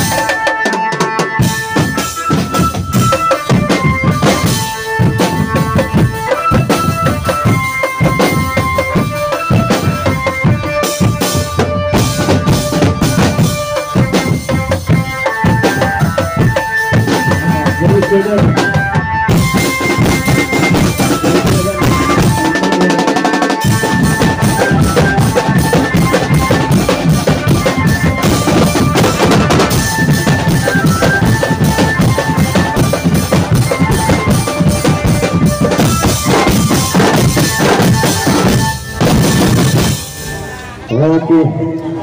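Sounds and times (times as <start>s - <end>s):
snare and bass drums beating: 0.0s - 40.1s
melody of held notes: 0.0s - 42.0s.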